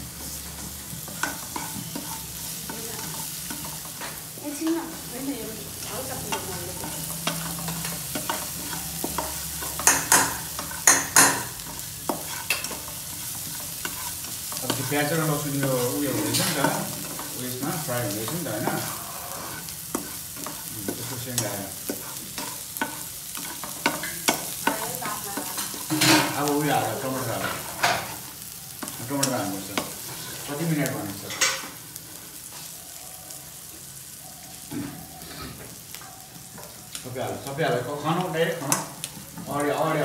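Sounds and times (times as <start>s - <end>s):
curry sizzling in a wok: 0.0s - 40.0s
spatula scraping a wok: 0.2s - 32.7s.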